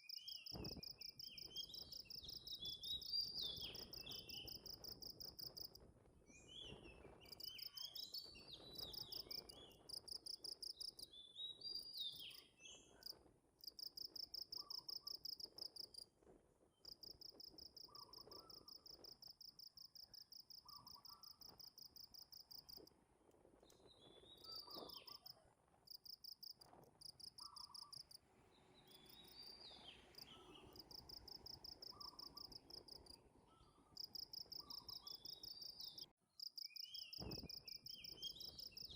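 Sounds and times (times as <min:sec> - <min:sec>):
bird chirps: 0:00.0 - 0:05.7, 0:06.3 - 0:13.2, 0:13.9 - 0:15.7, 0:16.8 - 0:19.2, 0:20.1 - 0:22.8, 0:23.6 - 0:25.4, 0:27.2 - 0:38.9.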